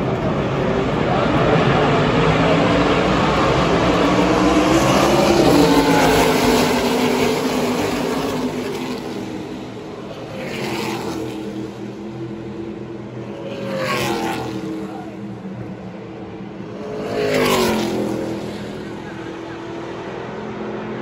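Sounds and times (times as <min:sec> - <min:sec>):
drone of racing engines: 0:00.0 - 0:21.0
race trucks passing at speed: 0:00.0 - 0:21.0.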